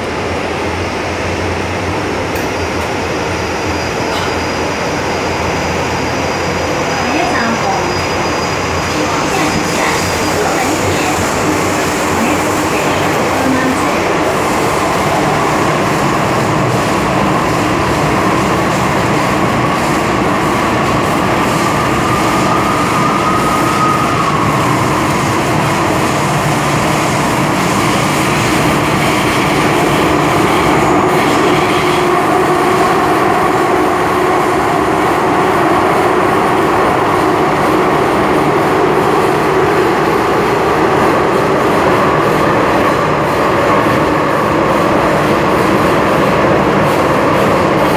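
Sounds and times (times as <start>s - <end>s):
train wheels rumbling: 0.0s - 47.9s.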